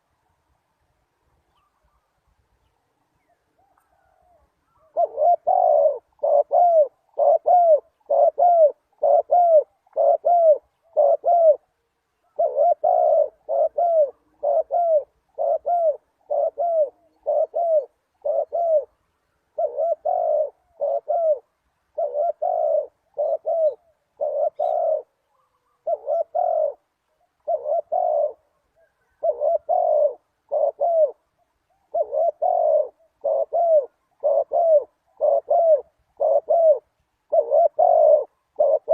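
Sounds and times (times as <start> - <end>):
dove cooing: 3.2 - 38.9.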